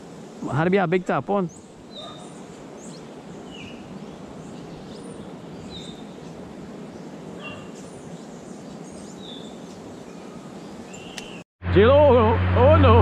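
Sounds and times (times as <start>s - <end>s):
steady background hiss: 0.0s - 11.4s
birds chirping: 0.3s - 11.5s.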